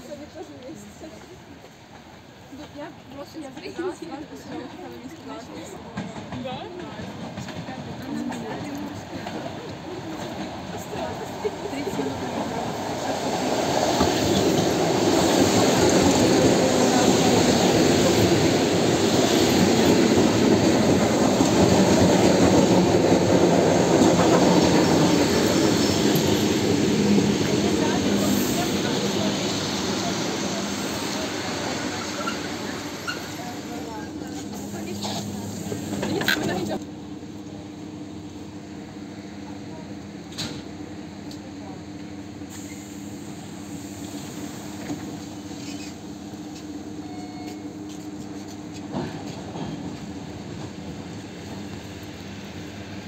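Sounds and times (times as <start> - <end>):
train passing on rails: 0.0 - 53.0.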